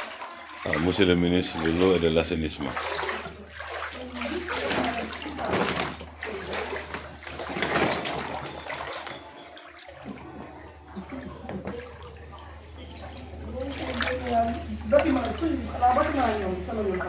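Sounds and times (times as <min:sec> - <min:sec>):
water sloshing around wading legs: 0:00.0 - 0:17.0.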